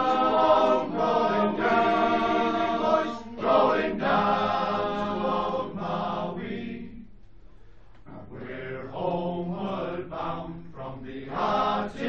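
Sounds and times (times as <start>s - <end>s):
men's choir singing: 0.0s - 7.0s, 8.1s - 12.0s.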